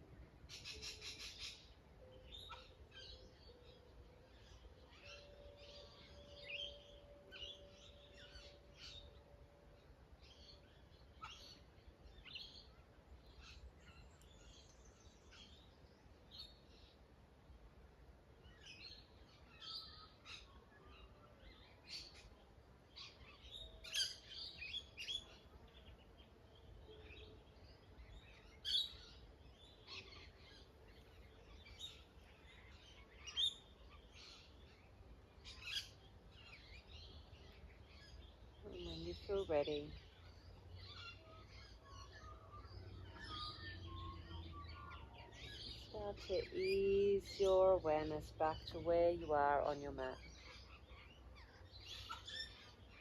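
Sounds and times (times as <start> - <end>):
wild birds chirping and calling: 0.0 - 53.0.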